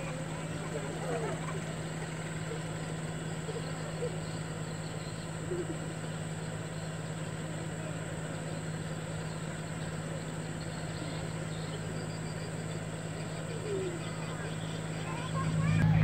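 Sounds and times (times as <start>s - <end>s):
faint bird chirps: 0.0s - 15.8s
boat diesel engine drone: 0.0s - 16.0s.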